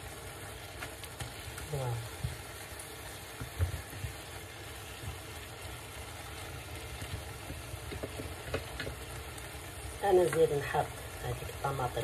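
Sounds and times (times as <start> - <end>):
meat frying in a pot: 0.0 - 12.0.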